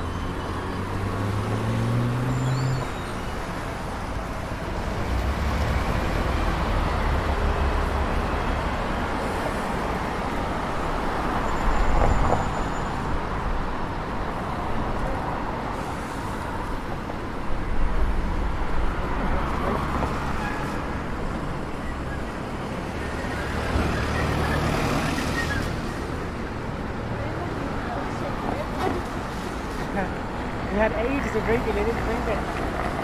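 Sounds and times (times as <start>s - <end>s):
vehicles passing on wet road: 0.0s - 33.0s.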